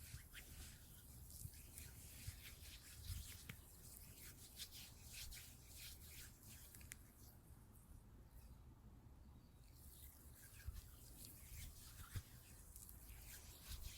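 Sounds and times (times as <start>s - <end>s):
rubbing and scratching strokes: 0.0s - 7.4s, 9.6s - 13.9s.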